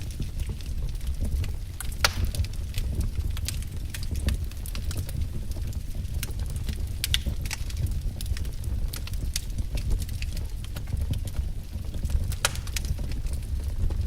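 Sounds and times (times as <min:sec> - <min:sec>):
low fire rumble: 0:00.0 - 0:14.0
wood fire crackling: 0:00.0 - 0:14.0.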